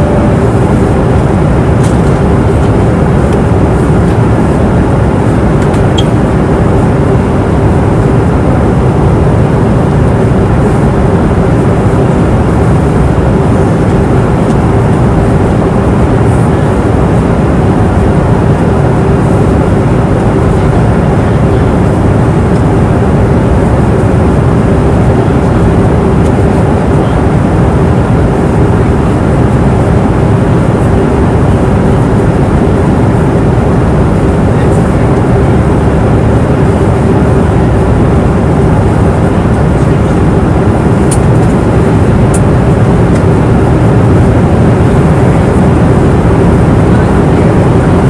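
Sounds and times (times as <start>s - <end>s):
airplane cabin engine rush: 0.0s - 48.0s
faint steady hum: 0.0s - 48.0s.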